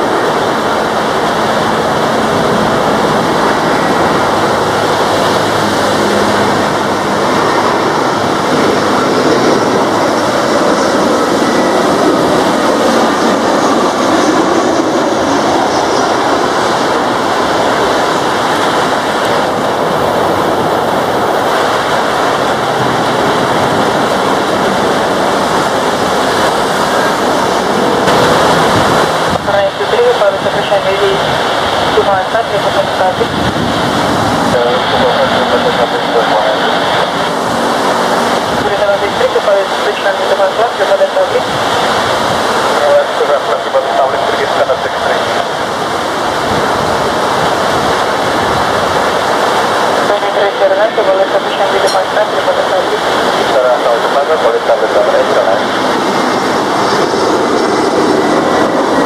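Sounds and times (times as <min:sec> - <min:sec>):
faint aircraft whine: 0:00.0 - 0:59.0
heavy rain rushing: 0:00.0 - 0:59.0
jet engines landing: 0:00.0 - 0:59.0.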